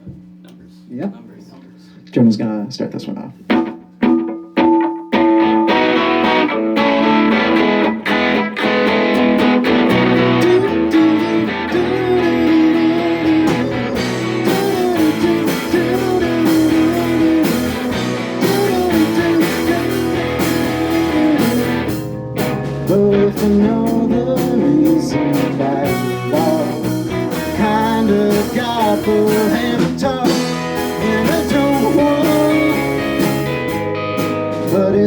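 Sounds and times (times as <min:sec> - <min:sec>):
electric guitar: 0:03.4 - 0:35.0
rock band playing live: 0:03.5 - 0:35.0.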